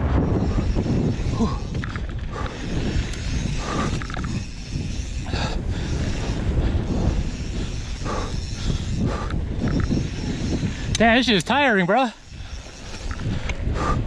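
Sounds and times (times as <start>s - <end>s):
bike rattling: 0.0s - 14.0s
bike tyres rolling on dirt: 0.0s - 14.0s
wind rumble on microphone: 0.0s - 14.0s.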